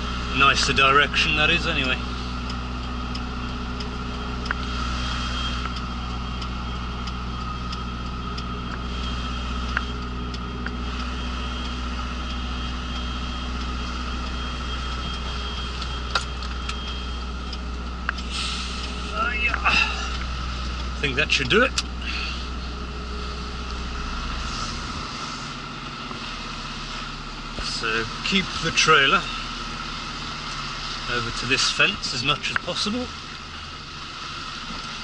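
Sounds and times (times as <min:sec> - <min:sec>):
diesel engine idling low: 0:00.0 - 0:35.0.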